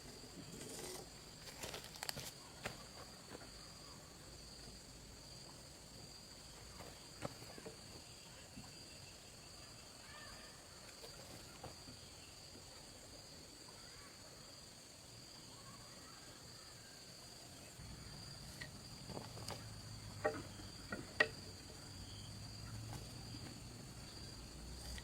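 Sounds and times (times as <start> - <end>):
insect trill: 0.0 - 25.0.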